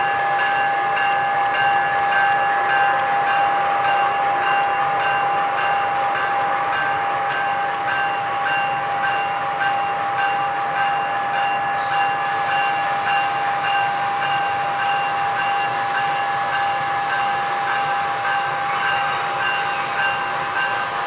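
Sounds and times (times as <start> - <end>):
model train electric whine: 0.0 - 21.0.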